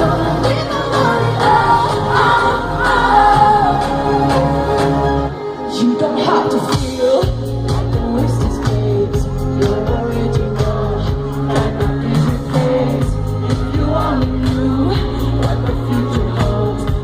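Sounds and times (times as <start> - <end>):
heavy bass: 0.0 - 5.3, 6.8 - 17.0
crowd noise: 0.0 - 17.0
live pop music: 0.0 - 17.0
person singing: 0.0 - 17.0.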